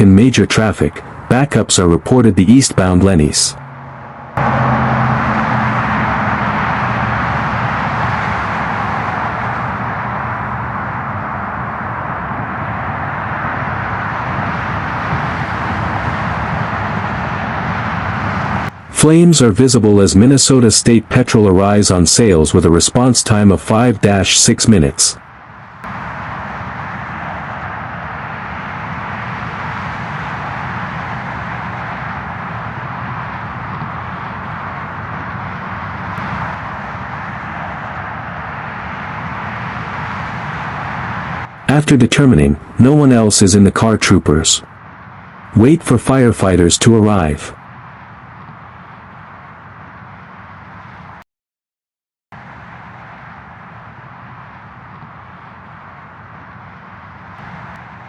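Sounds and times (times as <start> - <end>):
freeway traffic rushing: 0.0 - 51.2, 52.4 - 58.0
low traffic hum: 0.0 - 51.2, 52.4 - 58.0.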